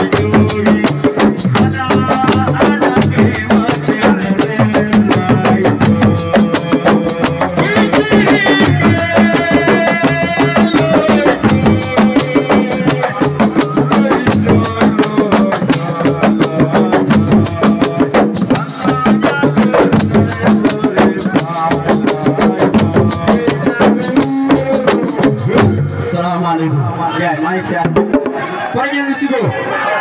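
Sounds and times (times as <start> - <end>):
bass drum: 0.0 - 26.2
hand drum percussion: 0.0 - 26.2.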